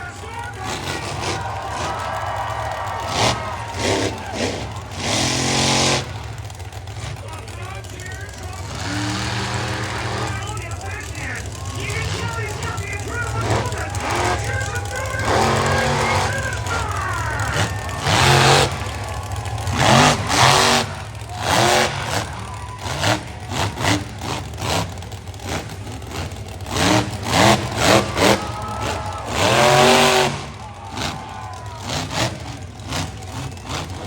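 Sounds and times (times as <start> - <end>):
low engine rumble: 0.0 - 34.0
truck engine revving: 0.0 - 34.0.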